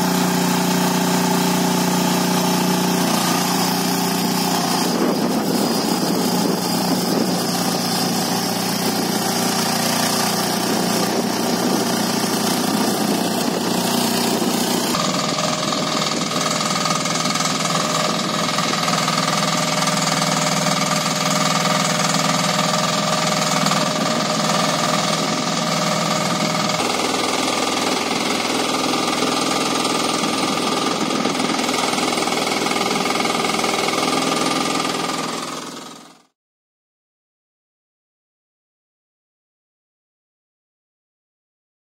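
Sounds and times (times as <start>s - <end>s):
small engine knocking: 0.0s - 36.3s.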